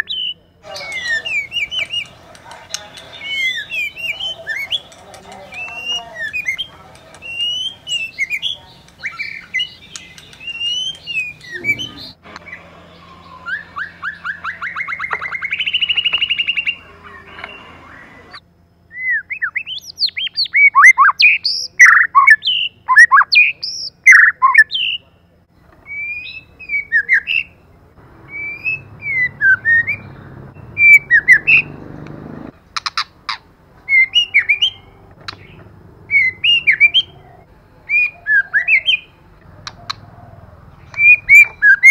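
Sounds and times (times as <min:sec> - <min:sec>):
songbird whistling and trilling: 0:00.0 - 0:12.6, 0:13.2 - 0:18.3, 0:18.9 - 0:25.0, 0:25.8 - 0:27.6, 0:28.3 - 0:31.7, 0:32.8 - 0:40.1, 0:40.8 - 0:41.9.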